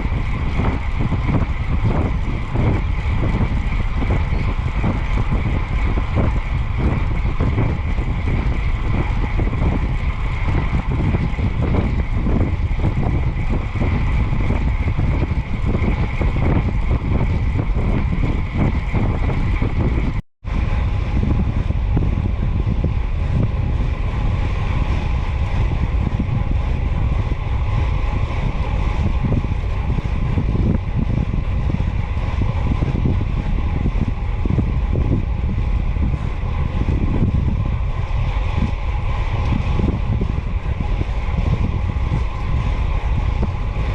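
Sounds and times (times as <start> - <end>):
faint steady whine: 0.0 - 43.9
wind buffeting microphone: 0.0 - 43.9.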